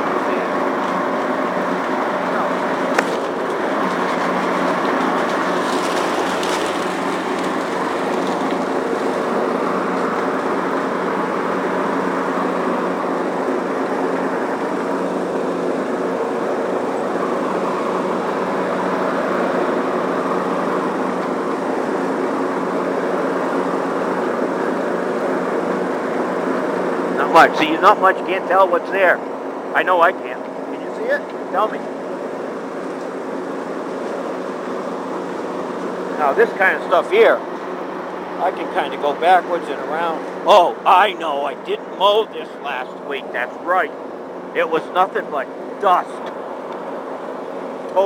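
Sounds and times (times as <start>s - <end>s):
lawn tractor engine humming: 0.0s - 48.0s.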